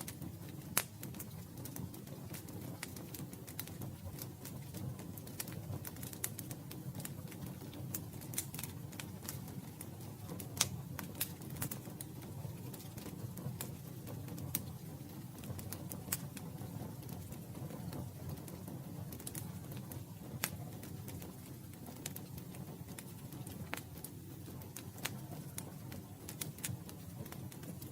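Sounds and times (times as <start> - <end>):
campfire crackling: 0.0 - 27.9
low flame rumble: 0.0 - 27.9.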